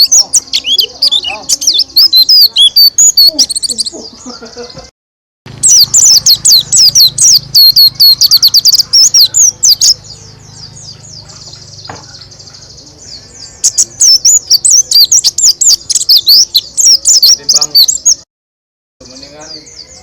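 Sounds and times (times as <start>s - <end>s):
bird singing rapid high chirps: 0.0s - 4.7s, 5.5s - 18.2s, 19.0s - 20.0s.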